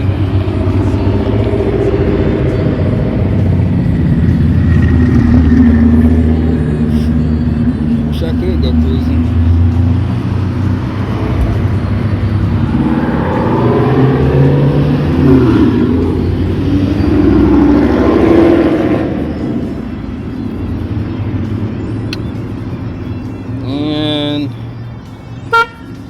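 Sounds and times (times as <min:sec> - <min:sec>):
engine revving and idling: 0:00.0 - 0:25.2.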